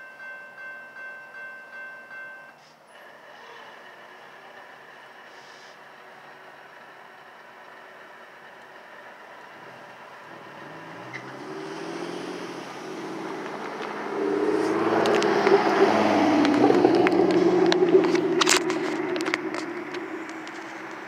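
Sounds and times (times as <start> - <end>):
cars passing over crossing: 2.8 - 21.0.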